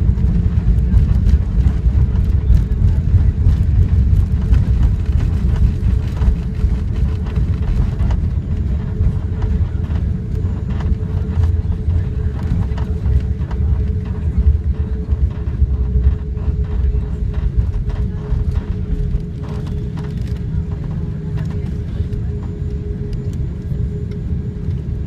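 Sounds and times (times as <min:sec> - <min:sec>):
airliner cabin rumble and hum: 0:00.0 - 0:25.0.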